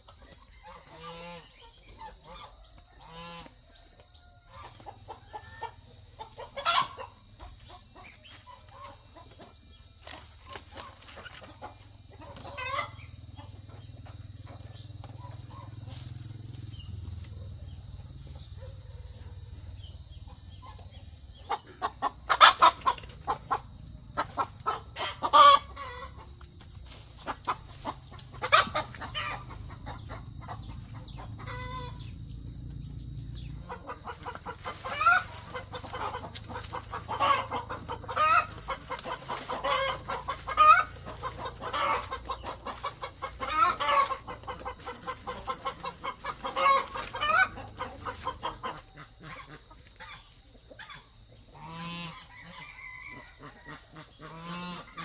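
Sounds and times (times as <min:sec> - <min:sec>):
chickens clucking and calling: 0:00.0 - 0:55.0
steady high-pitched whine: 0:00.0 - 0:55.0.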